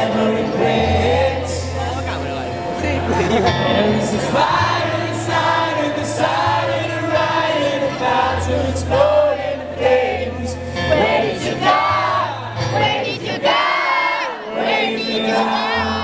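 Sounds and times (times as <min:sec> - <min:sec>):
crowd noise: 0:00.0 - 0:16.0.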